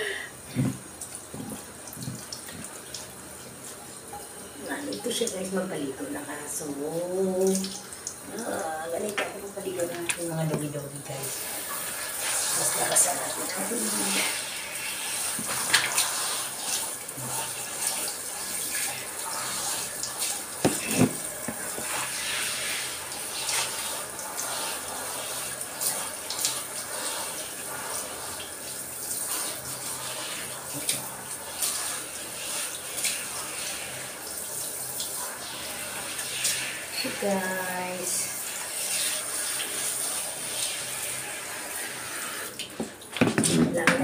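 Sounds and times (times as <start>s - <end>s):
shower spraying water: 0.0s - 44.0s.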